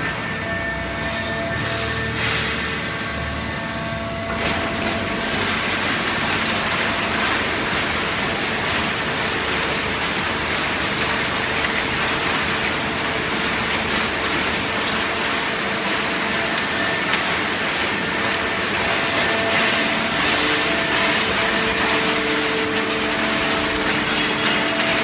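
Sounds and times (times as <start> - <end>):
hydraulic baling press running: 0.0 - 25.0.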